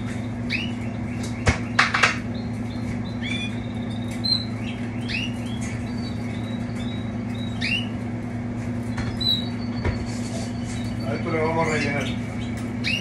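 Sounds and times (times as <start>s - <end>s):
canaries chirping: 0.0s - 13.0s
steady low hum: 0.0s - 13.0s.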